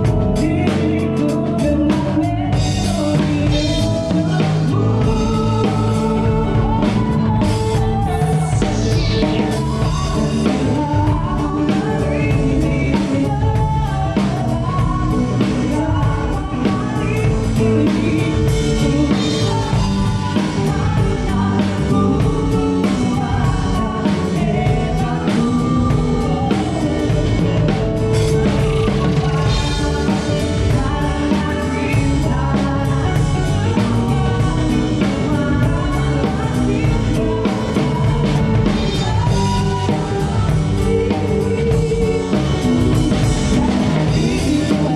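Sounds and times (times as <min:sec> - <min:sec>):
person singing: 0:00.0 - 0:44.9
rock band playing: 0:00.0 - 0:44.9.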